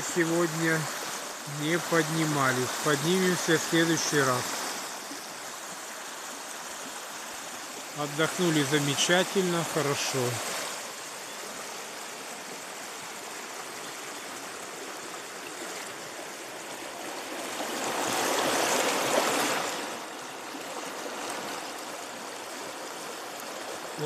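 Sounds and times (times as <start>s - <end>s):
river rushing over stones: 0.0s - 24.0s.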